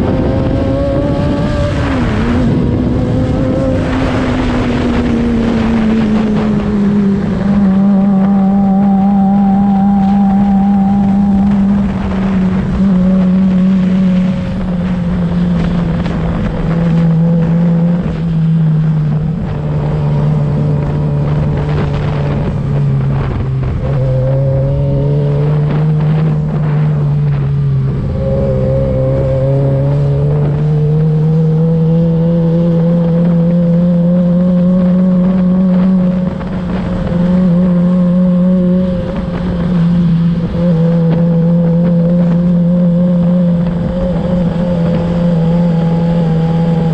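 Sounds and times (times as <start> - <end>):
motorcycle engine running: 0.0 - 46.9
wind rush over microphone: 0.0 - 46.9.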